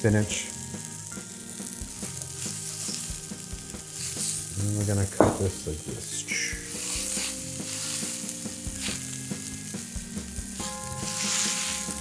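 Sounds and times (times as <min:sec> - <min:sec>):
vegetables sizzling in a skillet: 0:00.0 - 0:12.0.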